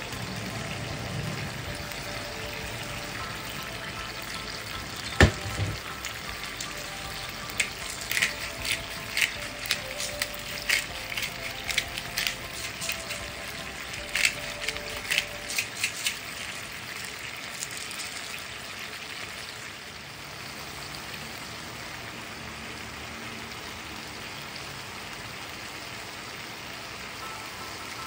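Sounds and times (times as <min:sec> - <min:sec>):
stew bubbling in a pan: 0:00.0 - 0:27.9.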